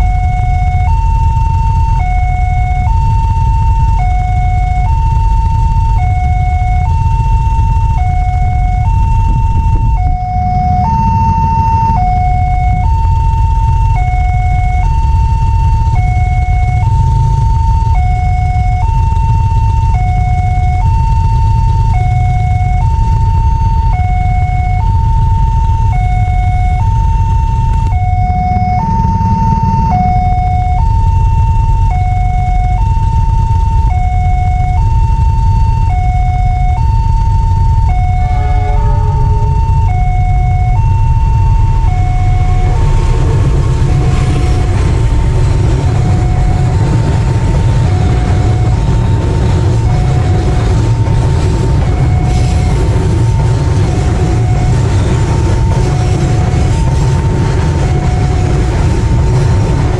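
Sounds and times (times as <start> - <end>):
level crossing two-tone alarm: 0.0 - 59.9
freight train passing: 3.9 - 22.7, 23.7 - 32.2, 37.5 - 59.9.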